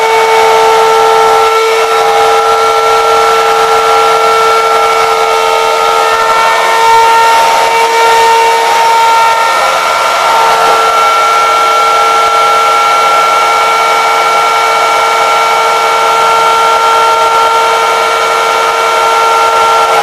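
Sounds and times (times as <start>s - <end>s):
electric hand mixer whining: 0.0s - 20.0s.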